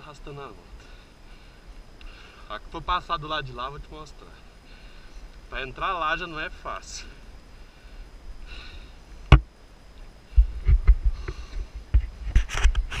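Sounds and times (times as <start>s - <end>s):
wind rumble: 0.7s - 13.0s.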